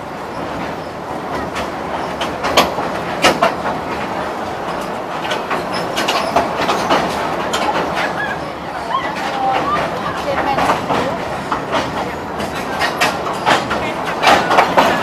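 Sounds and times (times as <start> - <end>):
train running rumble: 0.0 - 15.0
wheels clacking on track: 0.0 - 15.0.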